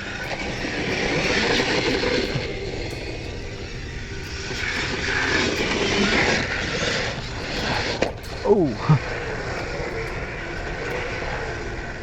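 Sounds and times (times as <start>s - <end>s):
high-pitched electric motor whine: 0.0s - 12.0s.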